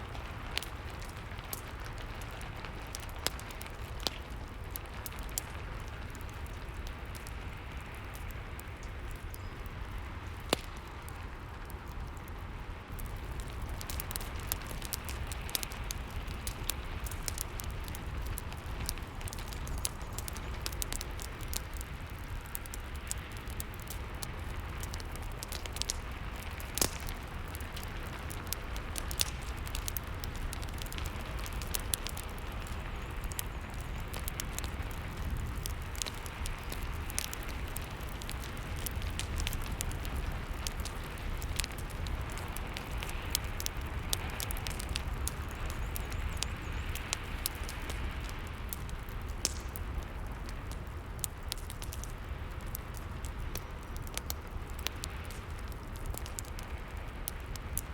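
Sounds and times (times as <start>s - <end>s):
fire pops: 0.0s - 57.9s
wood fire crackling: 0.0s - 57.9s.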